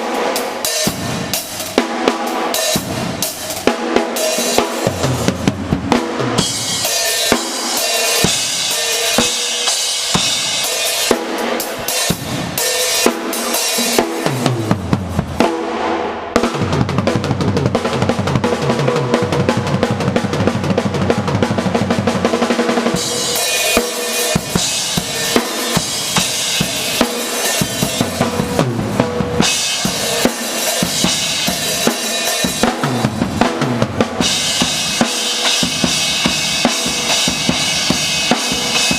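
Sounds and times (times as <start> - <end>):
drum kit played fast: 0.0 - 38.9.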